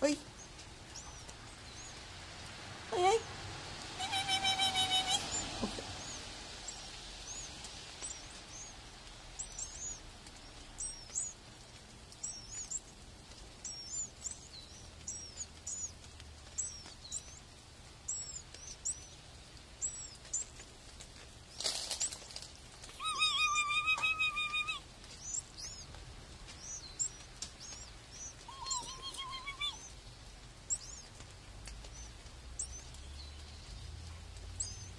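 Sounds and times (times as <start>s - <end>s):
songbird chirping: 0.0s - 34.9s.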